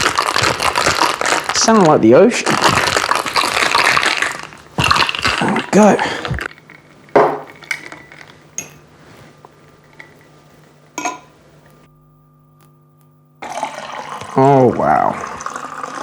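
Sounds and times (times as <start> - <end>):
low multi-tone hum: 0.0 - 16.0.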